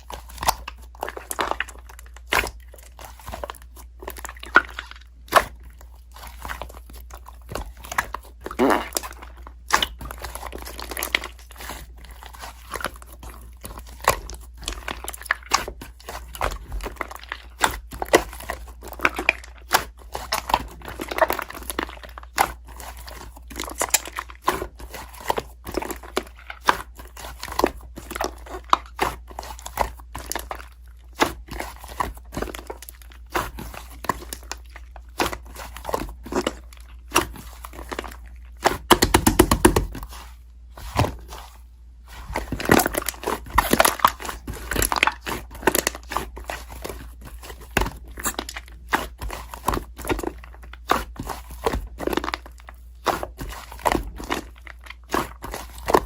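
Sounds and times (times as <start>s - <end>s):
crunching and crinkling: 0.0s - 56.0s.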